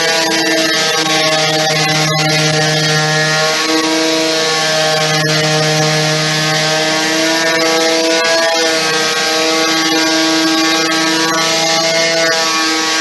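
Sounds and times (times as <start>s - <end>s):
electric sander running: 0.0s - 13.0s.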